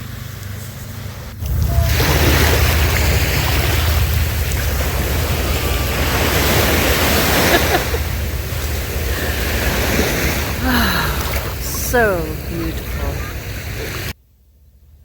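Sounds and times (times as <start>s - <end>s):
wind rumbling on microphone: 0.0s - 14.2s
ocean surf breaking: 0.8s - 14.2s.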